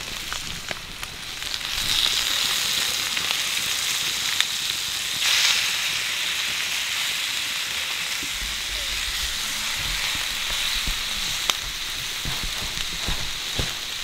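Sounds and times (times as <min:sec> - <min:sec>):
intestines sizzling on griddle: 0:00.0 - 0:14.0.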